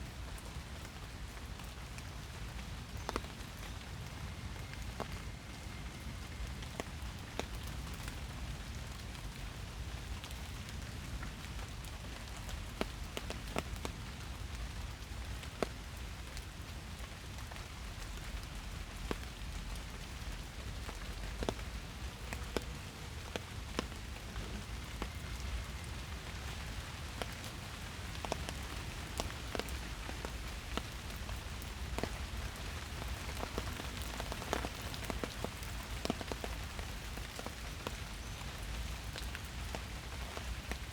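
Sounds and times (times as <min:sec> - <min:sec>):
rain hiss: 0:00.0 - 0:40.9
raindrops ticking on leaves: 0:00.0 - 0:40.9.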